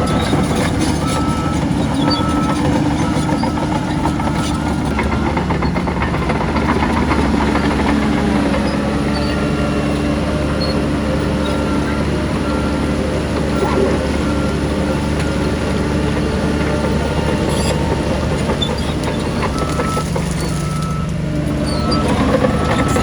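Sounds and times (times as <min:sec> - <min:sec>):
reversing alarm beeping: 0:00.0 - 0:06.1, 0:07.1 - 0:23.0
diesel earthmoving machinery running: 0:00.0 - 0:23.0
machinery rattling: 0:00.0 - 0:23.0.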